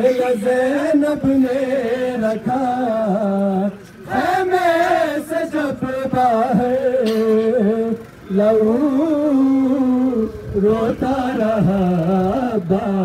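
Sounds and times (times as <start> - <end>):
person chanting a mourning lament: 0.0 - 13.0.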